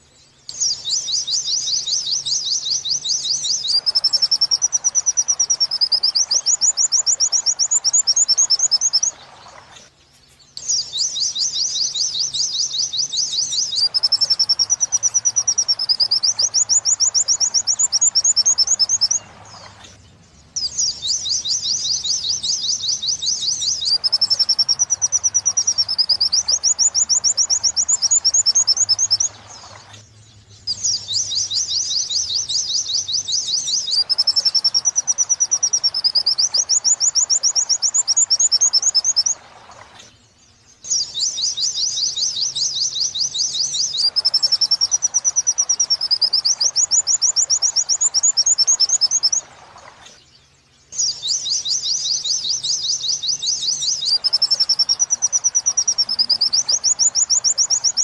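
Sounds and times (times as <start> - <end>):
wavering bird trill: 0.0 - 9.6, 10.5 - 19.8, 20.4 - 39.4, 40.1 - 49.4, 50.9 - 58.0
bird song with sharp high chirps: 0.0 - 58.0.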